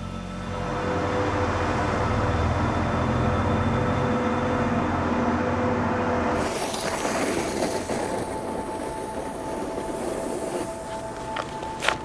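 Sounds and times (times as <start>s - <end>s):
engine low hum: 0.0s - 12.0s.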